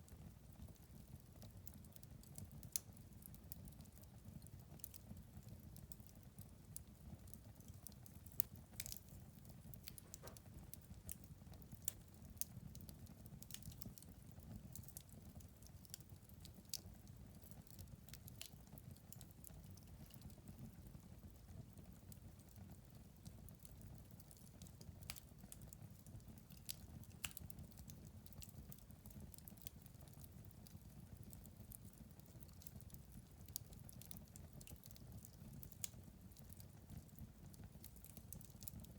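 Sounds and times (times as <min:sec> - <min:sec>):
wood fire crackling and popping: 0:00.1 - 0:38.9.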